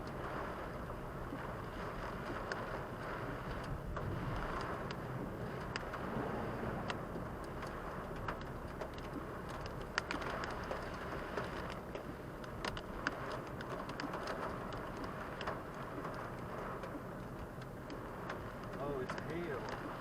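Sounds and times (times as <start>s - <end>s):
heavy rain on car roof: 0.0s - 20.0s
road noise: 0.0s - 20.0s.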